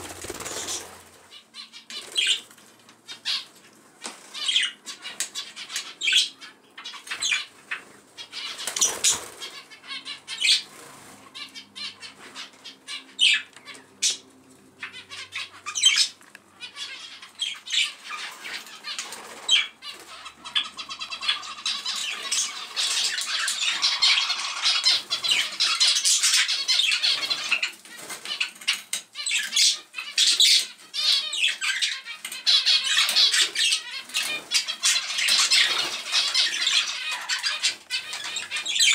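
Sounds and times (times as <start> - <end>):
small birds chirping and warbling: 0.0 - 38.9.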